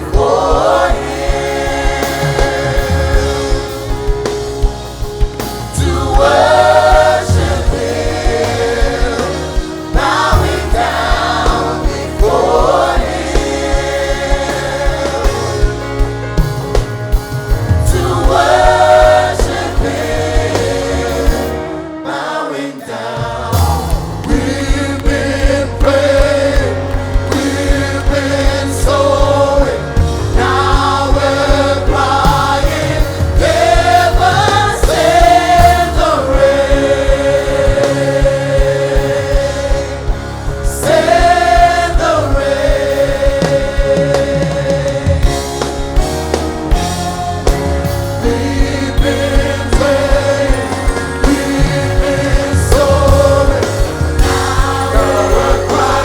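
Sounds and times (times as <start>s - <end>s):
band with bass and drums: 0.0s - 22.2s, 23.0s - 56.0s
choir singing in harmony: 0.0s - 56.0s.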